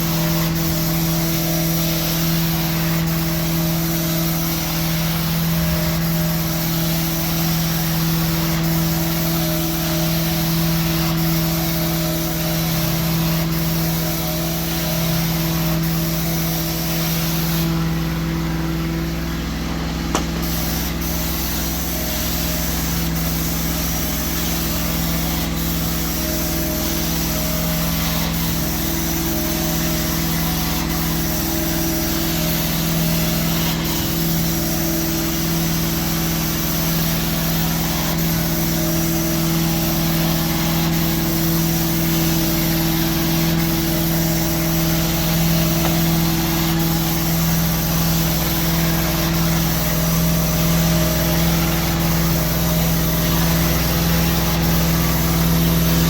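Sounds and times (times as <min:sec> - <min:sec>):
vacuum motor humming: 0:00.0 - 0:56.0.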